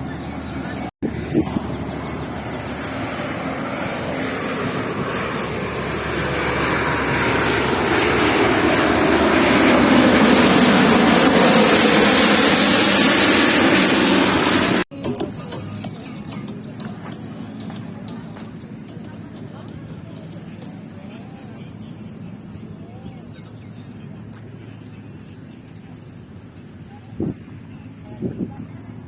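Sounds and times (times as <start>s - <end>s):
jet airliner engine noise: 0.0s - 29.0s.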